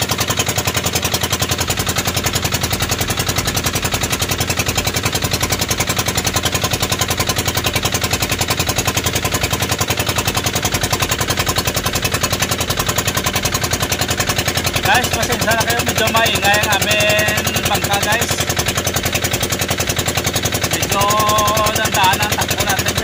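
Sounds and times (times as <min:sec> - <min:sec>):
boat engine chugging: 0:00.0 - 0:23.0.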